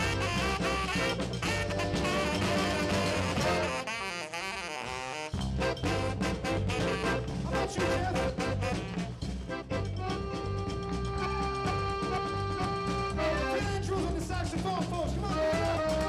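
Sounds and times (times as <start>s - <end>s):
tenor saxophone soloing: 0.0s - 9.3s, 10.0s - 13.6s
band with bass and drums: 0.0s - 16.0s.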